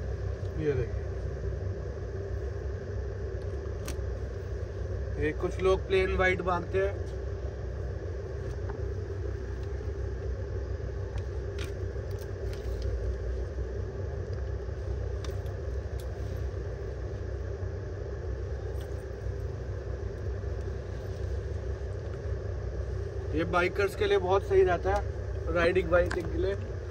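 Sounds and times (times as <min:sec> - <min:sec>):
low rumble and hum: 0:00.0 - 0:26.9.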